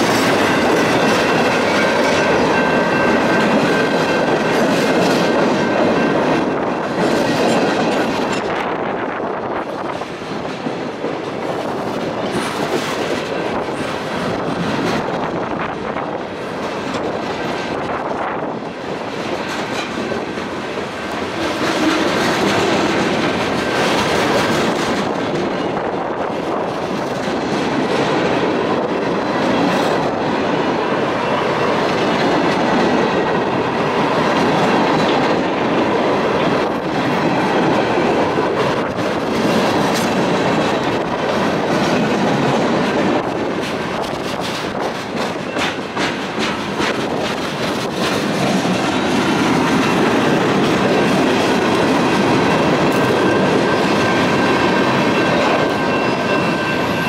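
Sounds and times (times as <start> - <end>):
rumble of train wheels on rail: 0.0 - 57.0
wheels clacking over rail joints: 0.0 - 57.0.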